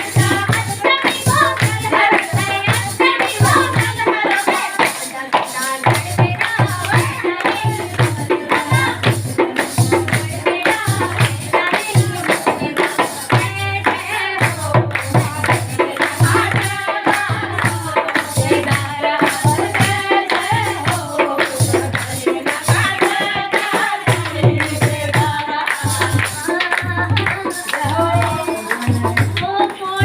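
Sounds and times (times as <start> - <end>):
drum beat: 0.0 - 30.0
jingling hand percussion: 0.0 - 30.0.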